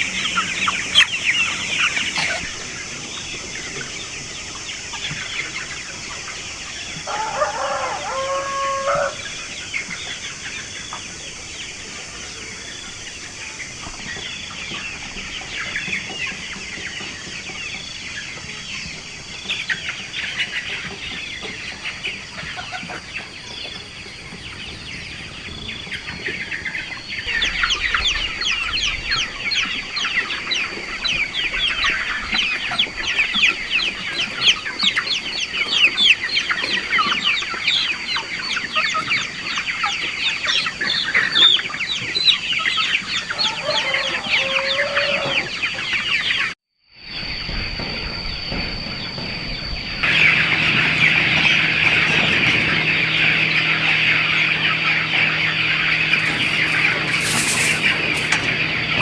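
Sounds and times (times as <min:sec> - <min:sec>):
chickens clucking: 0:00.0 - 0:46.6, 0:50.0 - 0:59.0.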